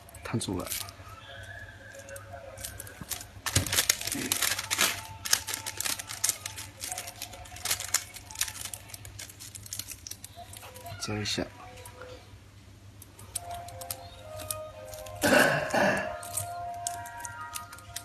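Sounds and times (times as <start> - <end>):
plastic film crinkling: 0.0 - 12.2, 13.0 - 18.0.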